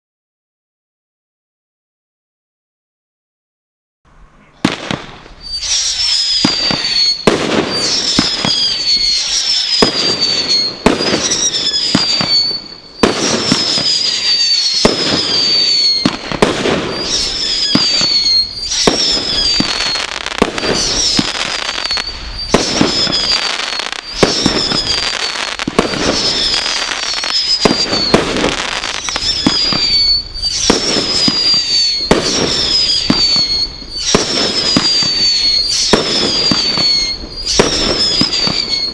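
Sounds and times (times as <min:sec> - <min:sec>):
firework bangs and crackling: 0:04.6 - 0:38.9
firework whistles falling in pitch: 0:04.6 - 0:38.9.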